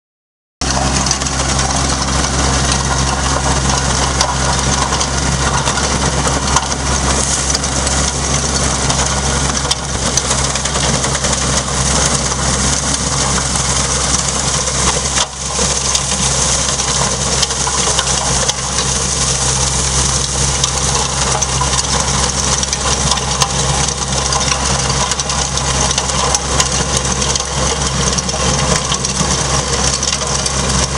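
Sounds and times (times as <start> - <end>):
diesel tractor engine running: 0.6 - 30.9
rotary tiller churning soil: 0.6 - 30.9.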